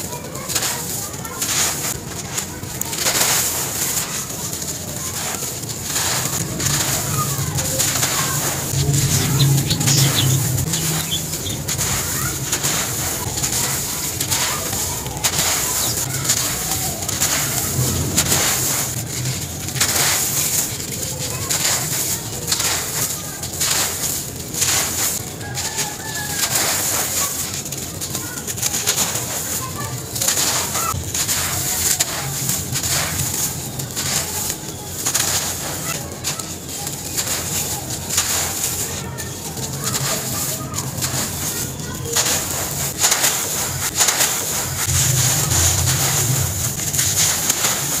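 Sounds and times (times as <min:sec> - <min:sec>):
sand block crunching in hands: 0:00.0 - 0:48.0
sand grains pouring: 0:00.0 - 0:48.0.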